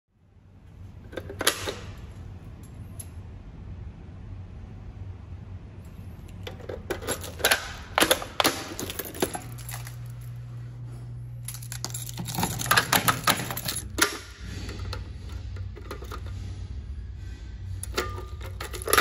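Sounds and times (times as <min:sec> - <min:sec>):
low steady hum: 0:00.1 - 0:19.0.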